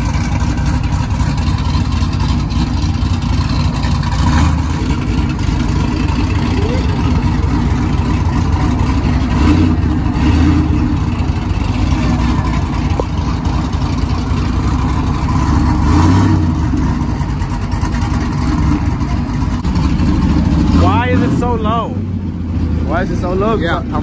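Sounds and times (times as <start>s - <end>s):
truck engine idling and revving: 0.0s - 24.0s.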